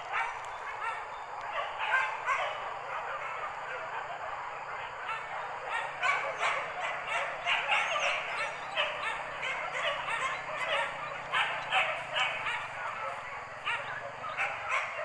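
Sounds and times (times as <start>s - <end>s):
dogs barking and yelping: 0.0s - 15.0s.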